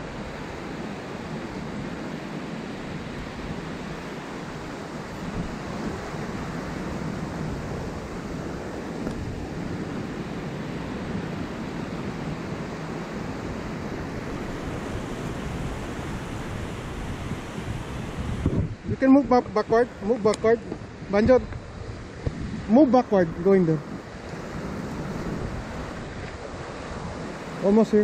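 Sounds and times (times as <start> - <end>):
small waves washing onto shore: 0.0 - 28.0
wind rumbling on microphone: 0.0 - 28.0.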